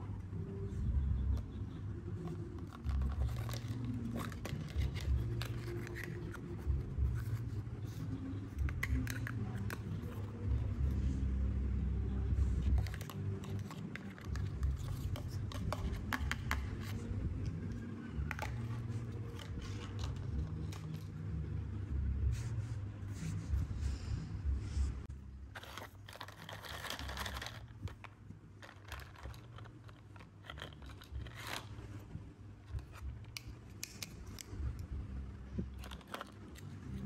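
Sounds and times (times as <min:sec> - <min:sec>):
steady low rumble: 0:00.0 - 0:25.6, 0:27.0 - 0:37.0.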